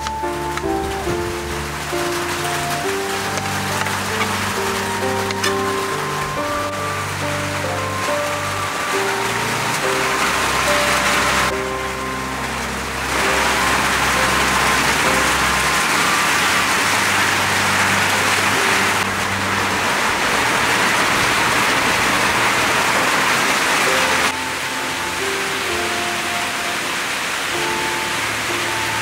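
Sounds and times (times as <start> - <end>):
heavy rain on pond and foliage: 0.0 - 29.0.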